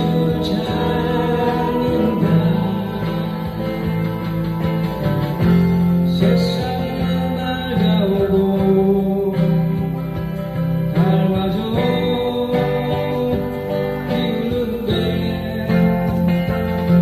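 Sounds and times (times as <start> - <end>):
acoustic guitars strumming: 0.0 - 17.0.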